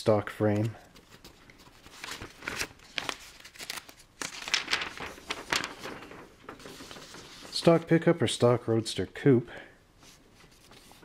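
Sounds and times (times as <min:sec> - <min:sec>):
paper sheet rustling: 0:00.4 - 0:08.6, 0:10.0 - 0:11.0.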